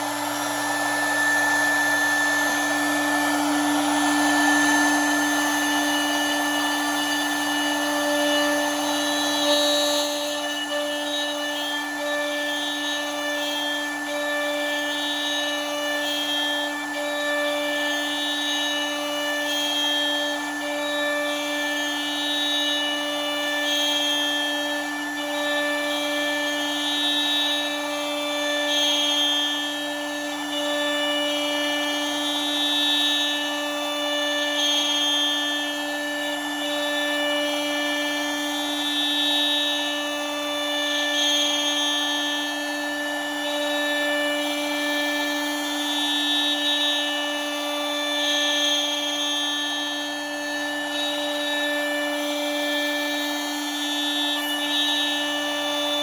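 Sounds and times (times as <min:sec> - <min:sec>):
cnc router spindle whine: 0:00.0 - 0:56.0.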